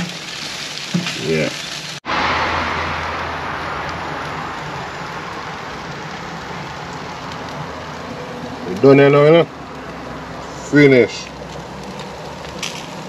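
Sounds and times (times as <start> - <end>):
meat sizzling on grill: 0.0 - 13.0.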